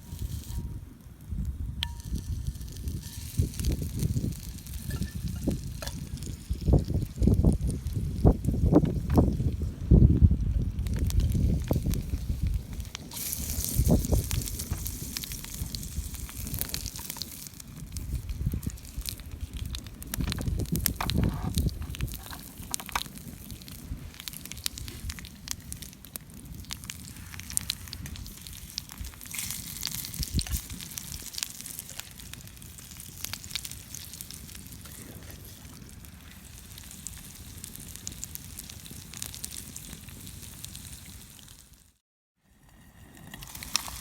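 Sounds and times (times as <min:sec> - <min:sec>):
campfire crackling and popping: 0:00.0 - 0:41.9, 0:42.6 - 0:44.0.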